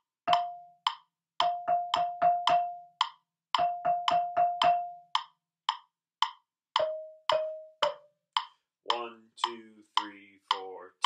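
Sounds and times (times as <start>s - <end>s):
xylophone-like mallet notes: 0.0s - 9.6s
steady click beat: 0.0s - 11.0s.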